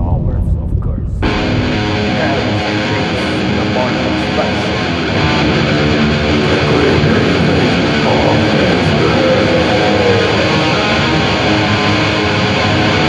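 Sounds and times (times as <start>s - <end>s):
distorted electric guitars: 0.0s - 13.0s.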